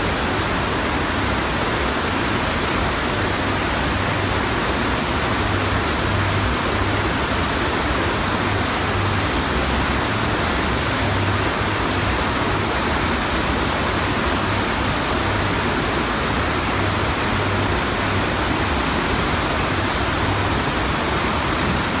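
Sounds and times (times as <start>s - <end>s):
water rushing up a wave ramp: 0.0s - 22.0s.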